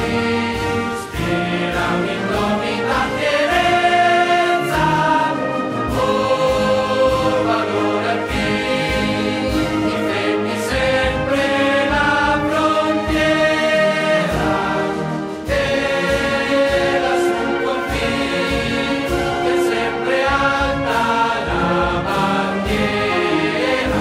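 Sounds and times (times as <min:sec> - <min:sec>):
choir singing: 0:00.0 - 0:24.0
musical accompaniment: 0:00.0 - 0:24.0.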